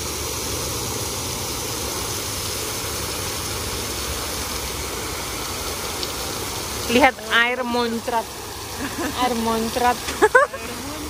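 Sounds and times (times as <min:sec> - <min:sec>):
water jet spraying: 0:00.0 - 0:11.0.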